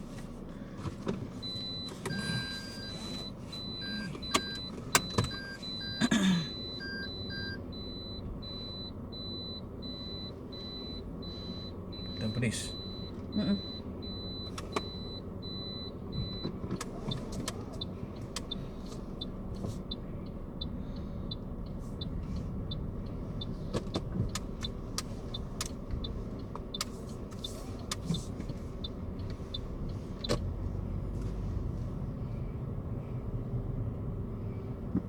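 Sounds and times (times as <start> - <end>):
car engine and road rumble: 0.0 - 35.0
turn signal ticking: 0.0 - 35.0.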